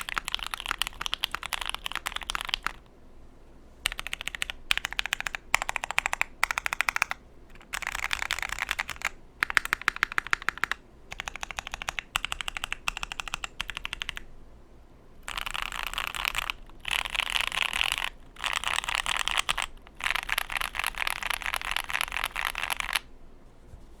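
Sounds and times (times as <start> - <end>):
mechanical keyboard typing: 0.0 - 2.9, 3.8 - 14.2, 15.2 - 23.1.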